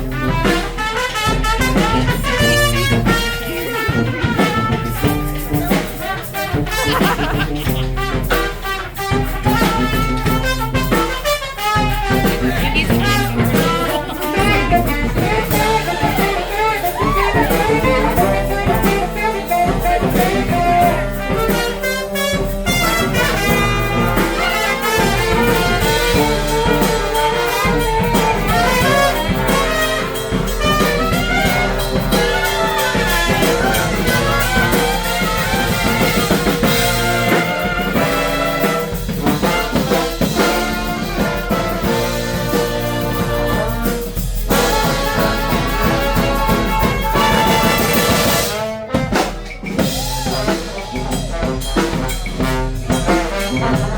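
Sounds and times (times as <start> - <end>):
brass band playing: 0.0 - 53.9
drum kit beat: 0.0 - 53.9
saxophones: 0.0 - 53.9
trumpets: 0.0 - 53.9.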